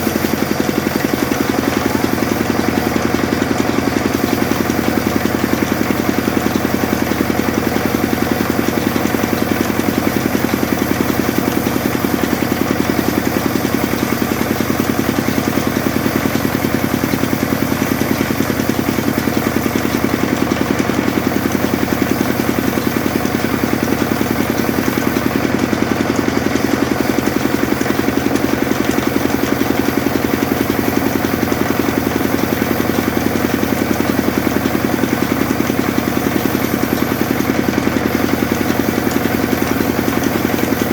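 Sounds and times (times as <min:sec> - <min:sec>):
sawmill machine running: 0:00.0 - 0:40.9.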